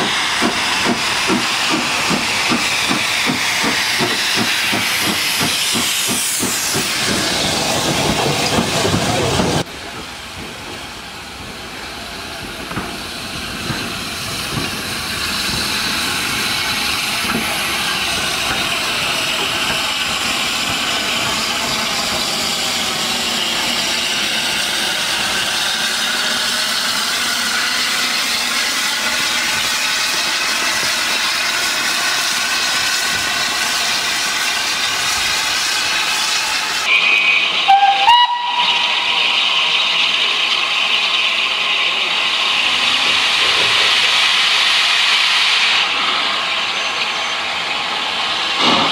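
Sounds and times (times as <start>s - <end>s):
steam locomotive hissing: 0.0s - 48.9s.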